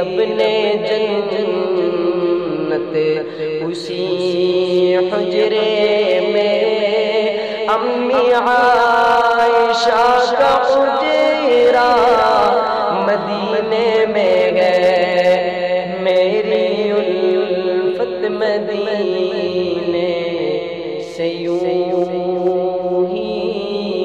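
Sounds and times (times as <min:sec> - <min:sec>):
man singing devotional melody: 0:00.0 - 0:24.0.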